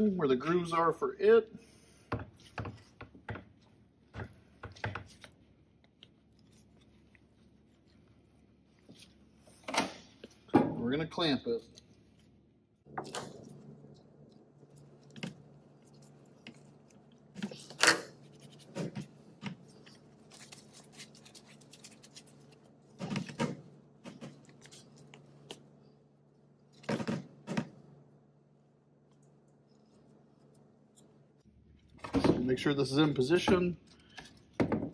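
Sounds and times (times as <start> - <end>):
low steady hum: 0.0 - 34.9.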